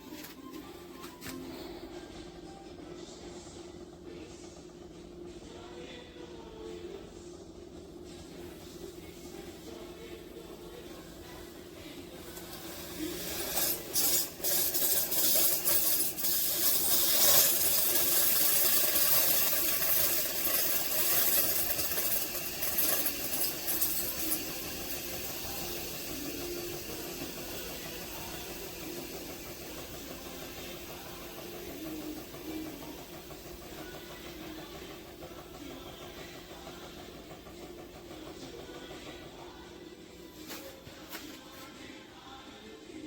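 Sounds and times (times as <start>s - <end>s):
coffee maker hissing and sputtering: 0.0s - 43.0s.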